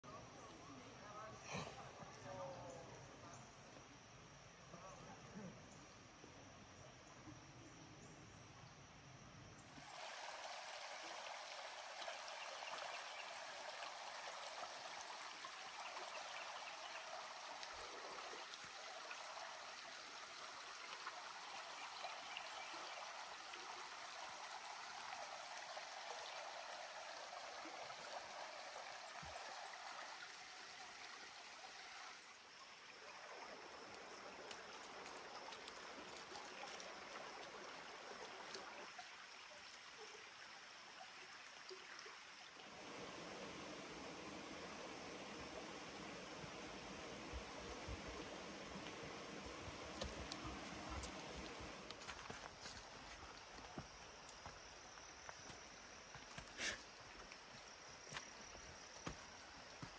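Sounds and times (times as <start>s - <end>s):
creek water running over rocks: 9.5s - 59.9s.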